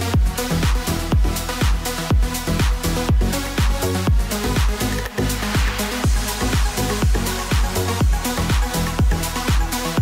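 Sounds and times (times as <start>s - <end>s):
kick drum: 0.1s - 4.9s, 5.6s - 10.0s.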